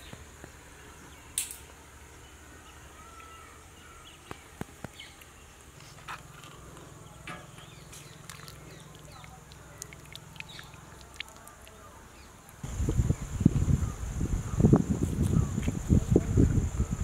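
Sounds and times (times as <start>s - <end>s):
birds chirping: 0.0s - 17.0s
insects: 0.0s - 17.0s.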